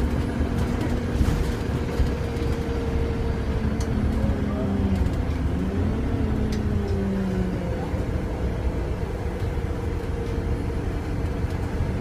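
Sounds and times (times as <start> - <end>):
bus engine drone with whine: 0.0 - 12.0.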